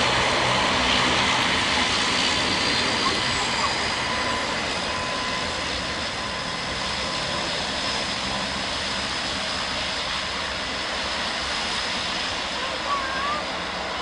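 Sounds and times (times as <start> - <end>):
jet airliner passing low: 0.0 - 14.0.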